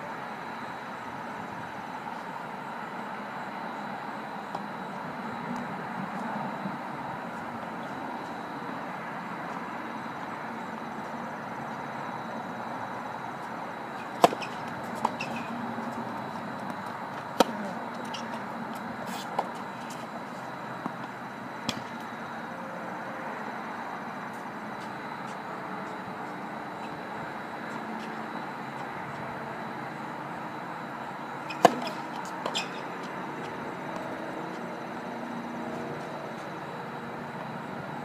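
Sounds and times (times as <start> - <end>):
steady background noise: 0.0 - 38.0.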